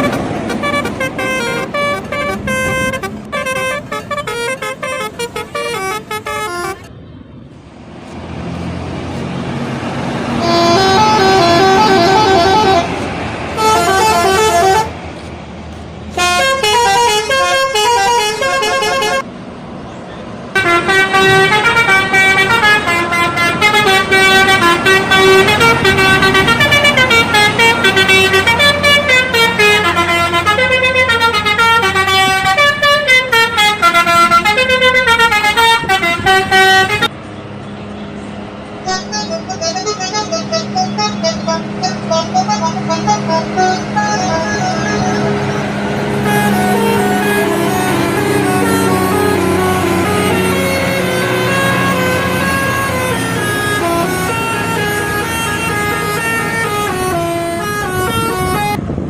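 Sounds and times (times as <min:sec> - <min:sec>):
melodic bus horns: 0:00.0 - 0:19.3, 0:20.4 - 0:59.0
bus engine running: 0:00.0 - 0:59.0
traffic noise: 0:00.0 - 0:59.0.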